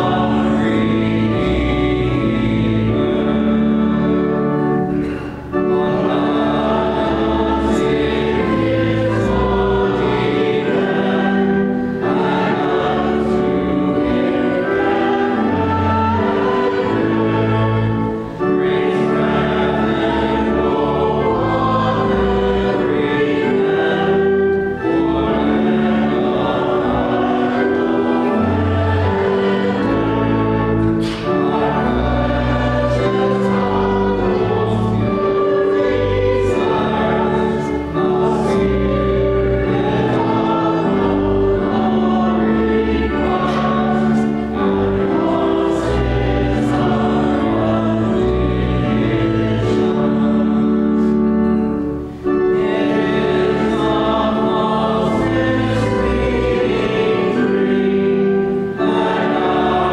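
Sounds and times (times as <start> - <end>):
voices singing a hymn: 0.0 - 59.9.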